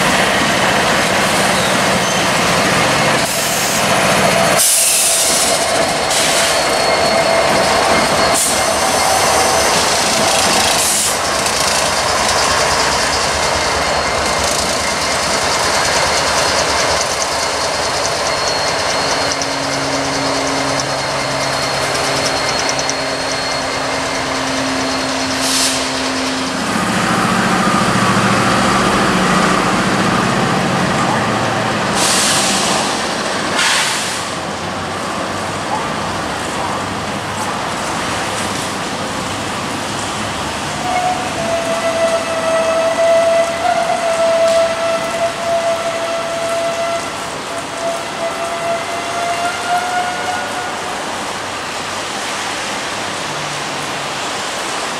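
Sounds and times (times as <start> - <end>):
diesel locomotive engine drone: 0.0 - 54.9
train wheels on rails: 0.0 - 54.9.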